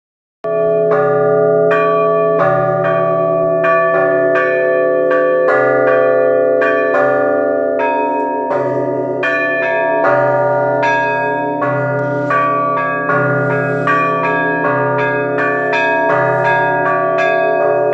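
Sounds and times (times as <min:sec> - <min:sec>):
church bells ringing: 0:00.4 - 0:17.9.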